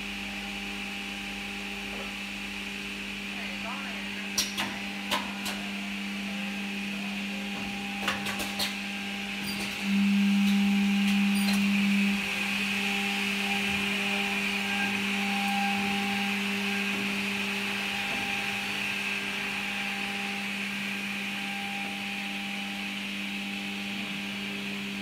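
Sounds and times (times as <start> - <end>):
electric motor hum: 0.0 - 25.0.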